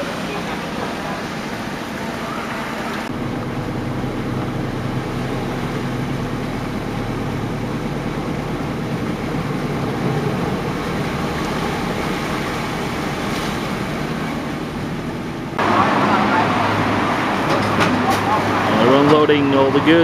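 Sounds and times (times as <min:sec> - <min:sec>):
truck engine running: 0:00.0 - 0:20.0
water rushing and sloshing: 0:00.0 - 0:20.0.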